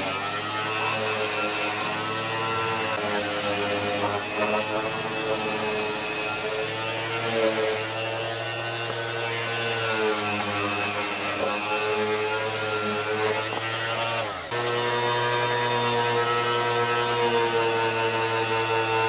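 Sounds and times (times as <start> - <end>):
electric orbital sander on plastic: 0.0 - 19.0.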